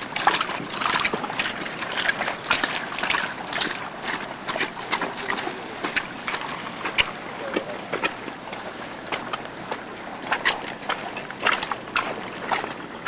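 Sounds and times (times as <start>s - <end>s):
bare feet wading through water: 0.0s - 13.0s.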